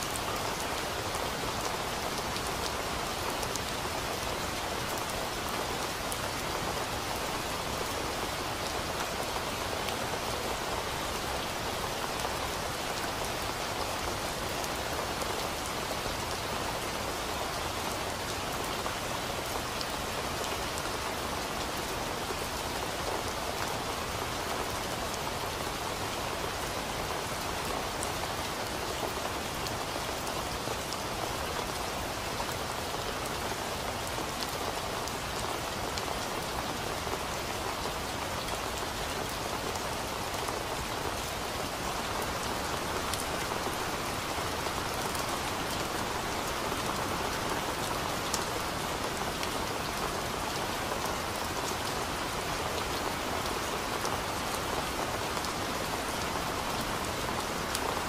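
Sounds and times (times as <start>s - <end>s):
rain hissing on leaves: 0.0s - 58.0s.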